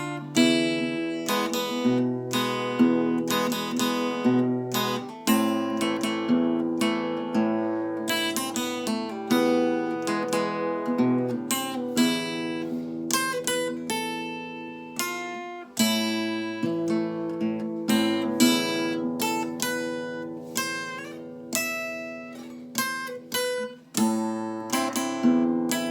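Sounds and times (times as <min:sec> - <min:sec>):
solo guitar melody: 0:00.0 - 0:25.9.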